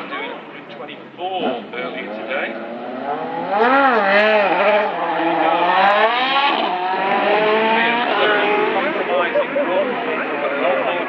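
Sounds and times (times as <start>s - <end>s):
racing car engine revving: 1.4s - 10.6s.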